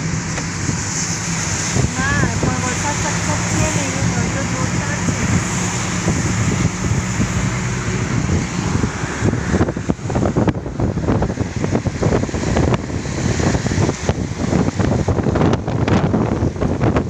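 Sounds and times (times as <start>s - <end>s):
road and engine hum: 0.0s - 17.0s
wind buffeting microphone: 0.0s - 17.0s.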